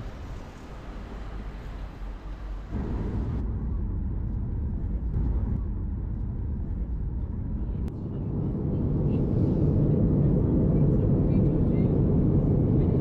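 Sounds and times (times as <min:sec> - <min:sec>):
vehicle rumbling in motion: 0:00.0 - 0:13.0.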